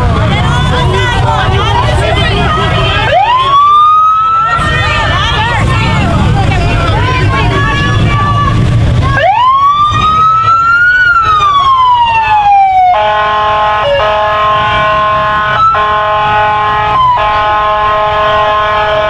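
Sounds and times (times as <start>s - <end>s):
police siren wail: 0.0s - 19.0s
steady blaring horn tone: 0.0s - 19.0s.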